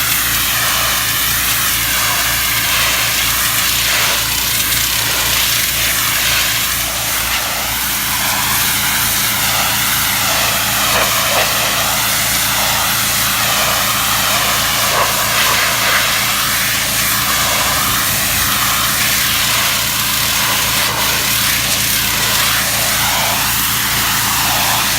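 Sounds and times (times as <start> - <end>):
high-pressure water spray hissing: 0.0 - 24.9
pressure washer engine running: 0.0 - 24.9.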